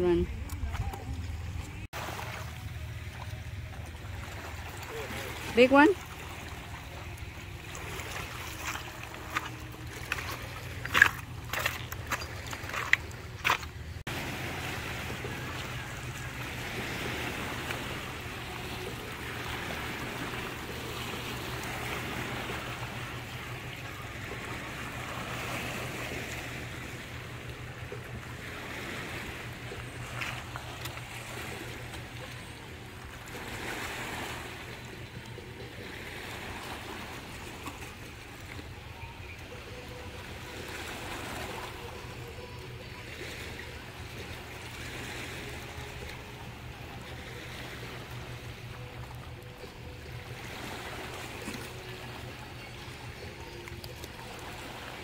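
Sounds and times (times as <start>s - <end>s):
waves washing onto rocks: 4.3s - 55.0s.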